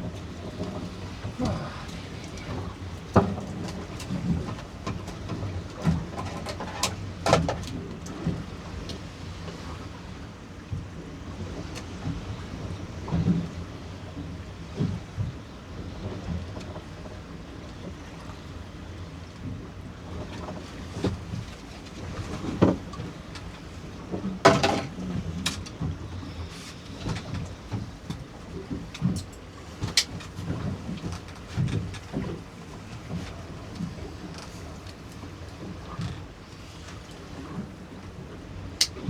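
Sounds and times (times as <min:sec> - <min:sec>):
water slapping boat hull: 0:00.0 - 0:39.0.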